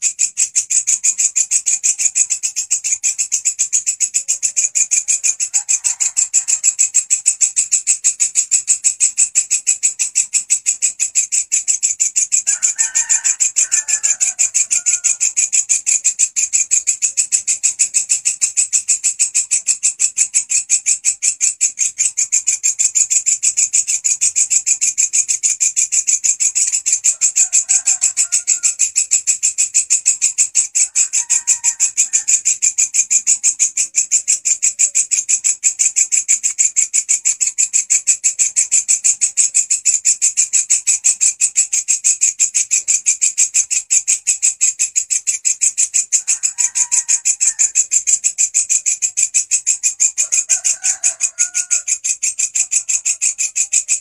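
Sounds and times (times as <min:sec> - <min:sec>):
bush cricket high-pitched buzz: 0:00.0 - 0:54.0
faint bird chirps: 0:00.0 - 0:54.0.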